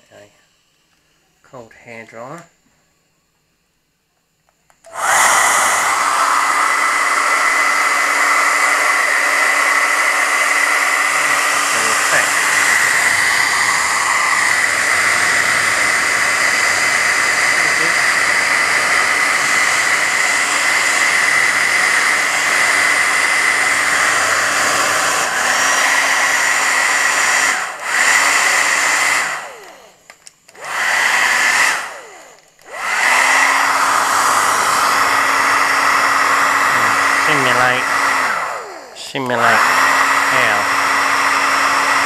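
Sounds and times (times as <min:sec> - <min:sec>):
hairdryer blowing: 0:04.8 - 0:42.0.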